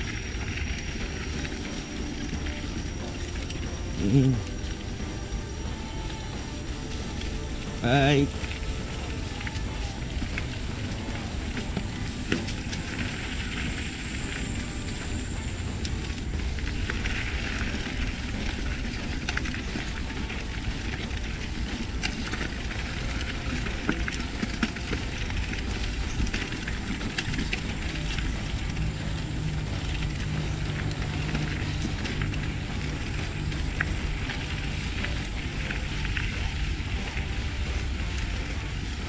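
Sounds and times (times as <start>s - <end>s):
bike clicks and rattles: 0.0s - 39.0s
bike tyres rumbling on dirt: 0.0s - 39.0s.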